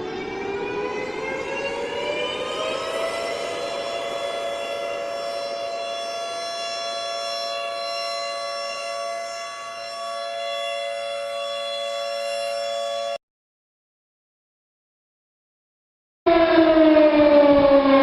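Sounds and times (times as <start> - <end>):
civil defence siren wailing: 0.0 - 13.2, 16.3 - 18.0.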